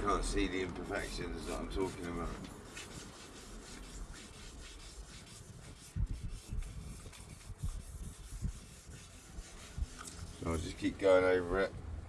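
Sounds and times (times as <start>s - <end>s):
sandpaper rubbing wet panel: 0.8s - 11.0s.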